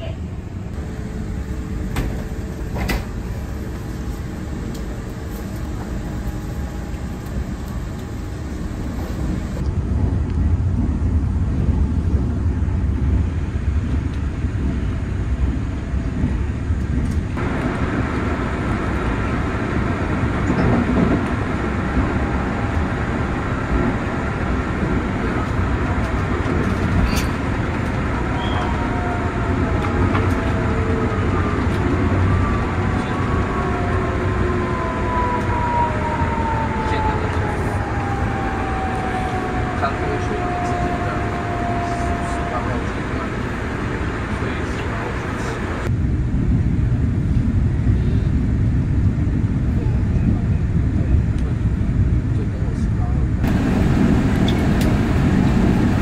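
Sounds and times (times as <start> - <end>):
train wheels rumbling: 0.0 - 47.8, 49.0 - 56.0.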